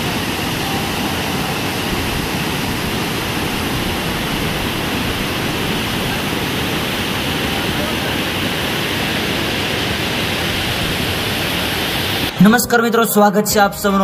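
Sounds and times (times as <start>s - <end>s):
water rushing: 0.0s - 12.6s.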